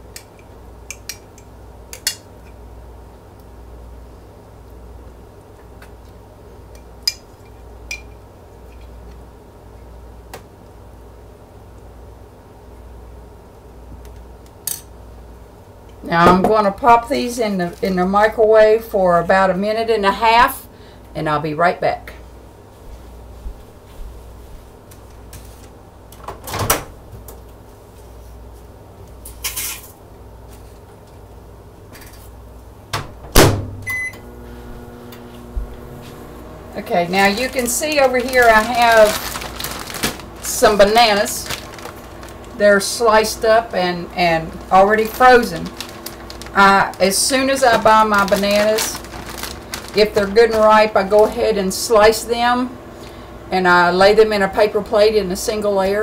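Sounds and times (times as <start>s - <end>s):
microwave humming: 0.0s - 23.8s, 30.0s - 56.0s.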